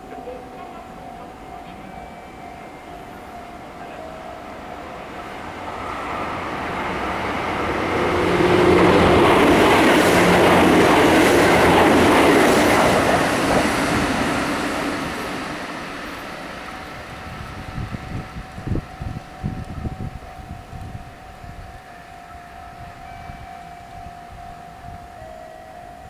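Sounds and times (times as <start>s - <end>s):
train wheels rumbling on rails: 0.0s - 25.4s.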